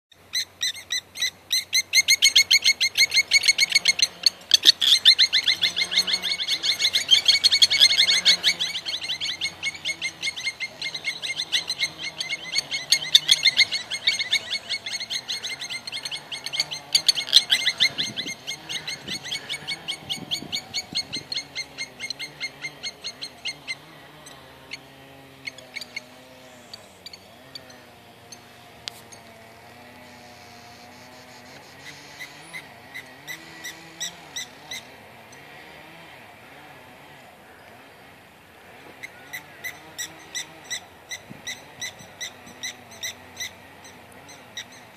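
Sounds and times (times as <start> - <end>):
lapwing alarm calls: 0.2 - 44.9.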